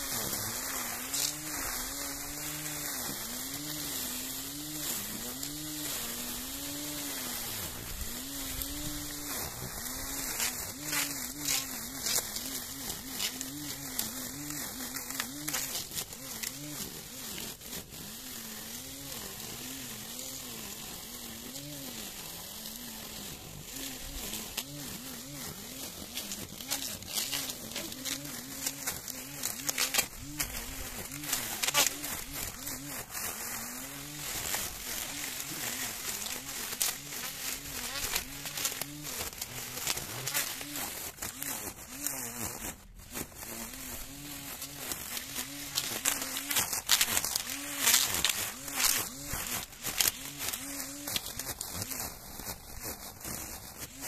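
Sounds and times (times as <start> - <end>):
grass trimmer motor whine: 0.0 - 54.0
hiss of cut grass: 0.0 - 54.0.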